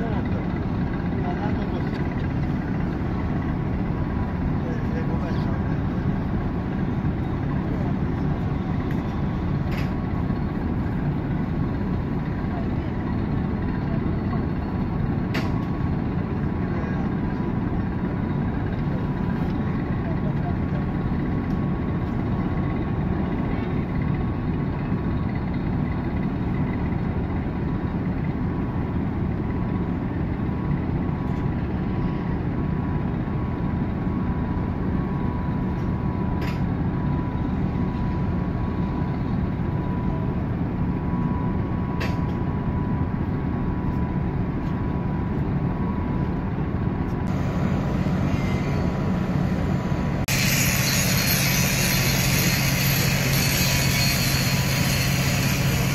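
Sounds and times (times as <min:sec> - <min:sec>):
ship engines droning: 0:00.0 - 0:55.9.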